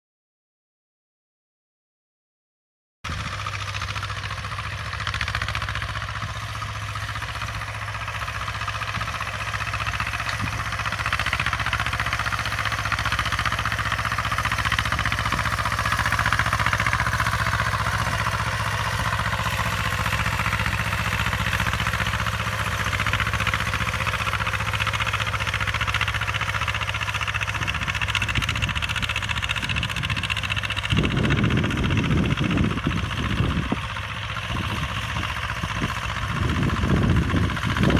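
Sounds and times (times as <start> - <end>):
harrow clatter: 3.1 - 37.9
tractor diesel engine under load: 3.1 - 37.9.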